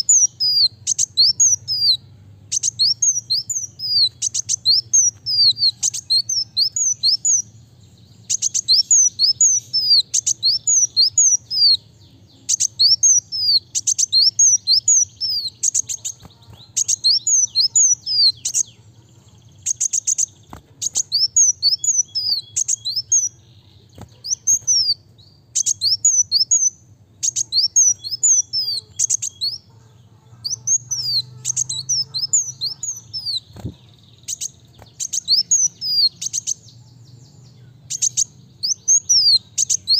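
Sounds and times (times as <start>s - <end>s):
sunbird singing high chirps: 0.0s - 39.9s.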